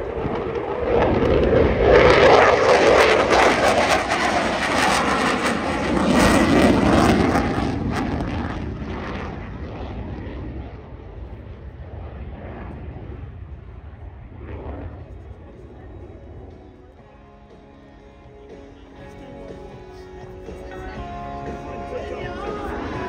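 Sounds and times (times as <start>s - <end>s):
fighter jet roaring past: 0.0s - 23.0s.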